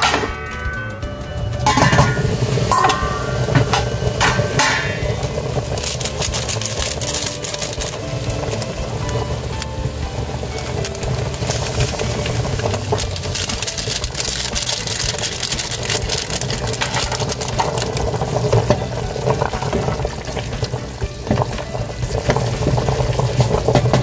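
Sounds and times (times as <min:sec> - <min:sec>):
broth boiling and bubbling: 0:01.2 - 0:24.0.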